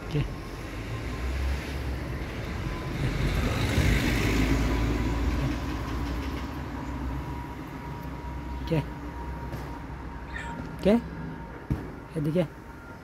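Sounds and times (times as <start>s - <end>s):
low traffic rumble: 0.0s - 13.0s
vehicle passing: 0.2s - 12.8s.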